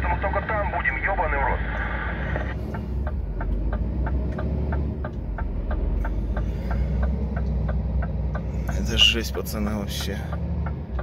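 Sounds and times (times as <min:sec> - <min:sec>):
diesel truck engine rumbling: 0:00.0 - 0:11.0
light regular ticking: 0:01.8 - 0:11.0.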